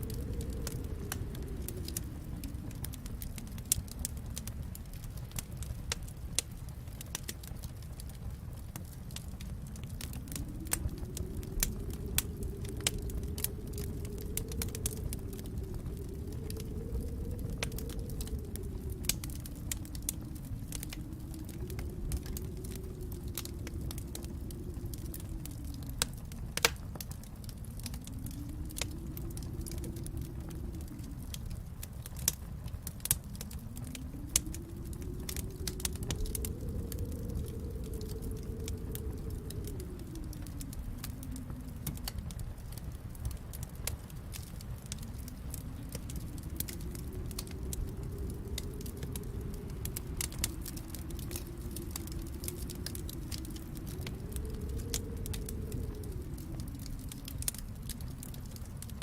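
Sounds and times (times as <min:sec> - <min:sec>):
storm wind howling: 0:00.0 - 0:59.0
wood fire crackling: 0:00.0 - 0:59.0.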